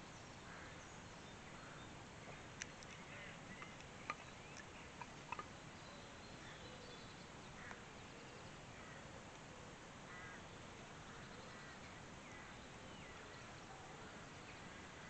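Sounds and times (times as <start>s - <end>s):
faint bird calls: 0.2s - 15.0s.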